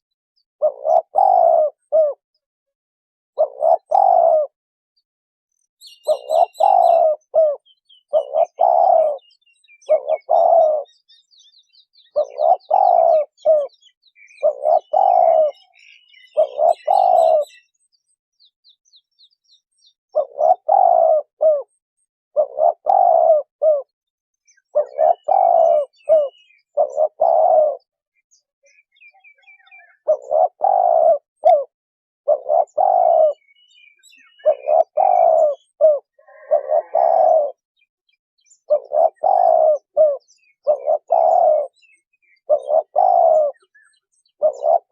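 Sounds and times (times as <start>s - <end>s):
small birds chirping: 0.1s - 2.5s, 3.4s - 44.9s
dove cooing: 0.6s - 2.2s, 3.4s - 4.6s, 5.8s - 11.3s, 12.0s - 17.7s, 20.1s - 23.9s, 24.5s - 28.0s, 28.7s - 37.6s, 38.7s - 44.9s.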